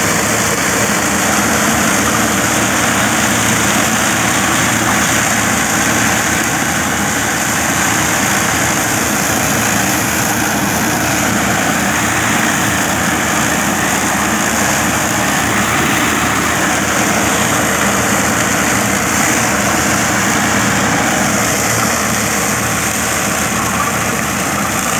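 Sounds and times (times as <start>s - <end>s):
mulcher rotor shredding straw: 0.0s - 24.9s
tractor engine: 0.0s - 24.9s.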